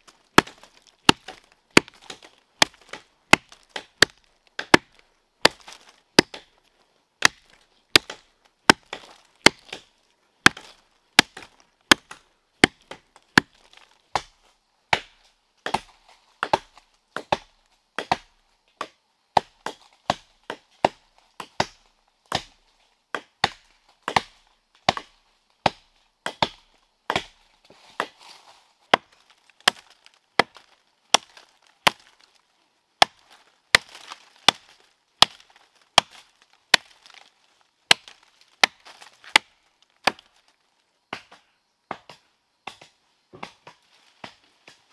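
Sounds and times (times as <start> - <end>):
wood being chopped: 0.0 - 6.6, 7.2 - 28.2, 28.9 - 32.3, 33.0 - 37.3, 37.9 - 40.4, 41.1 - 44.8.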